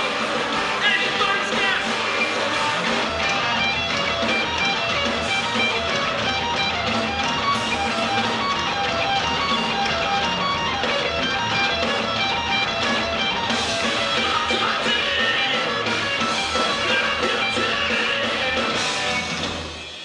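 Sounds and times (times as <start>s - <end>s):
electric guitars: 0.0s - 20.0s
live rock band playing: 0.0s - 20.0s.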